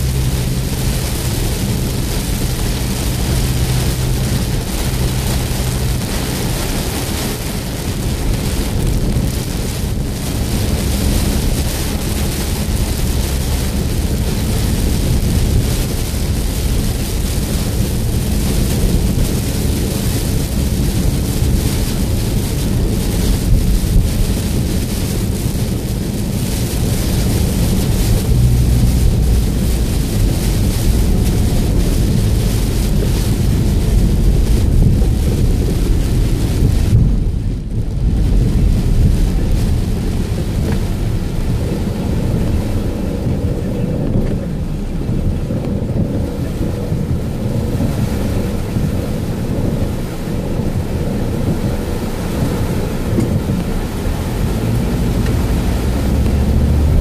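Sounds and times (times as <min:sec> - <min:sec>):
car tyres rumbling on wet road: 0:00.0 - 0:57.0
heavy rain on car windshield: 0:00.0 - 0:57.0.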